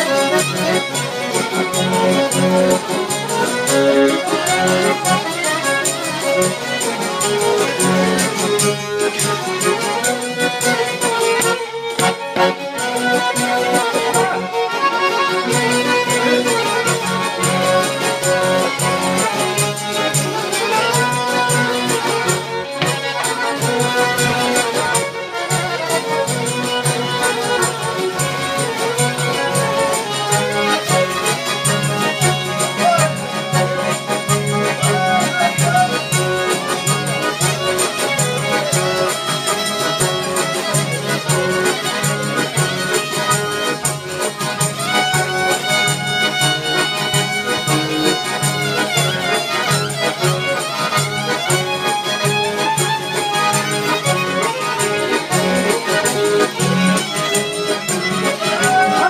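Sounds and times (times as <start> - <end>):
lutes strummed: 0.0 - 59.0
violin bowing melody: 0.0 - 59.0.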